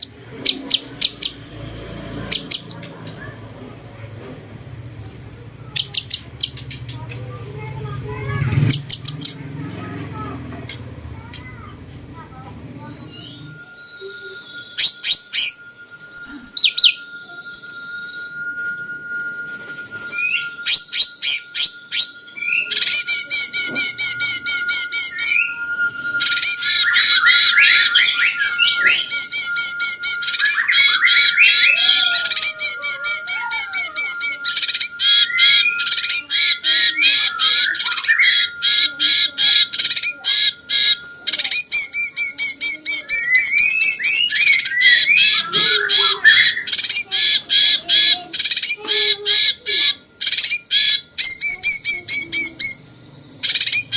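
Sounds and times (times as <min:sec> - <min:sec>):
bulbul singing: 0:00.0 - 0:53.9
faint steady high tone: 0:00.0 - 0:53.9.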